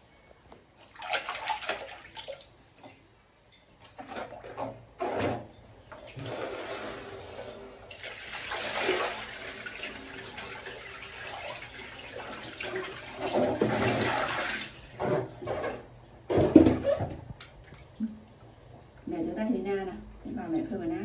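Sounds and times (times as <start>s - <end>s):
water sloshing in a plastic basin: 0.5s - 19.1s.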